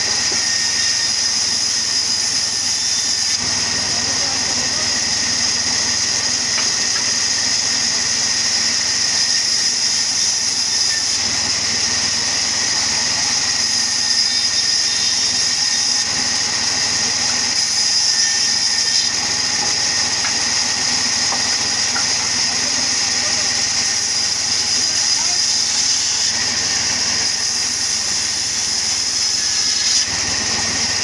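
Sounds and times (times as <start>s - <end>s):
sawmill cutting machine running: 0.0s - 31.0s.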